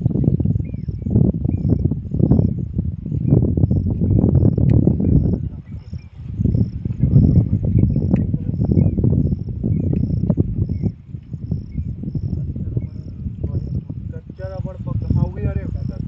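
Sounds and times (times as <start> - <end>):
cricket chirping: 0.0 - 16.0
loud low rumble: 0.0 - 16.0.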